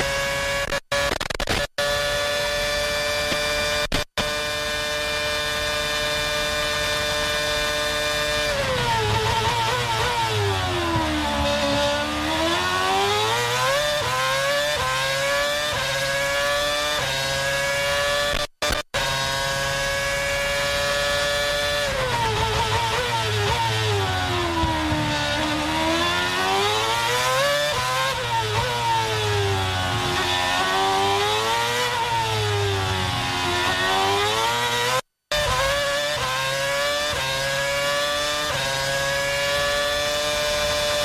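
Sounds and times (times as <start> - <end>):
racing car engine revving: 1.8 - 41.0.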